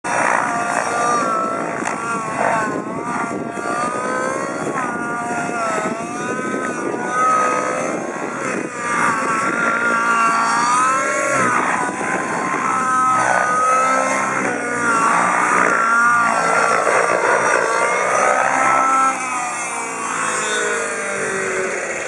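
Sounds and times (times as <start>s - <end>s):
model helicopter engine and rotor: 0.0s - 22.0s.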